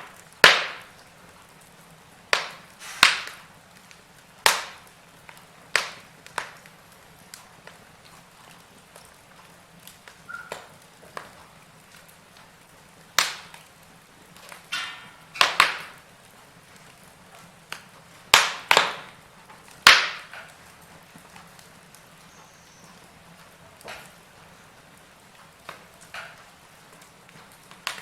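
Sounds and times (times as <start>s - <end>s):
log fire crackling: 0.0s - 28.0s.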